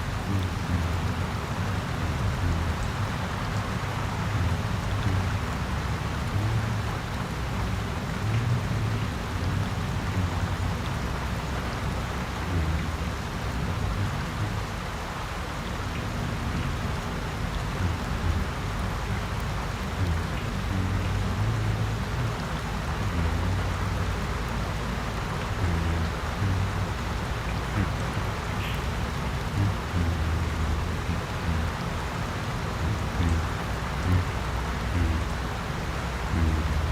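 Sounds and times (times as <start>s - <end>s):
low hum: 0.0s - 36.9s
rain falling: 0.0s - 36.9s.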